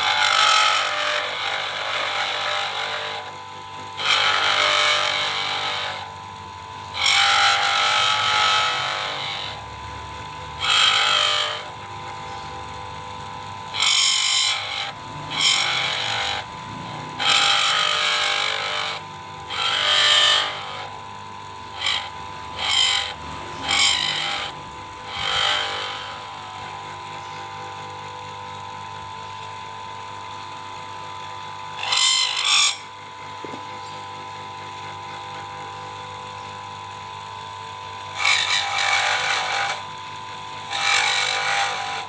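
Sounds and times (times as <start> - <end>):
cutting tool scraping pipe: 0.0 - 6.2, 6.9 - 27.9, 31.6 - 36.6, 38.0 - 42.0
lathe whining: 0.0 - 42.0.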